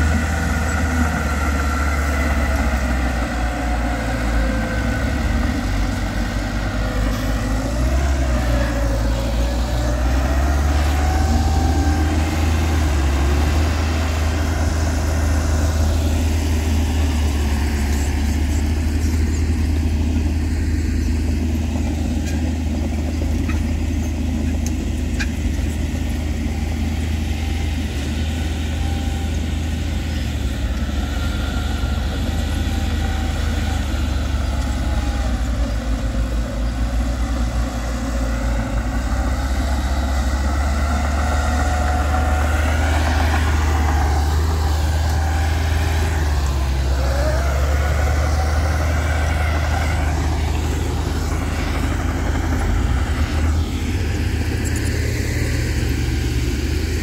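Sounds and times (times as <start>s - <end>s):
diesel engines droning: 0.0s - 57.0s
engine revving: 0.0s - 57.0s.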